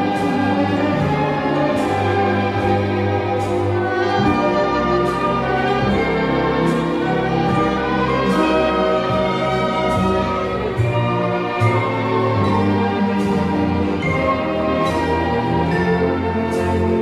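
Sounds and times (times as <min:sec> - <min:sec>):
orchestral music: 0:00.0 - 0:17.0.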